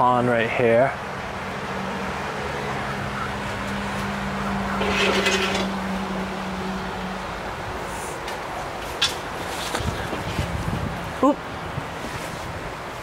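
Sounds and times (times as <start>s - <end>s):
vehicles passing on road: 0.0s - 13.0s.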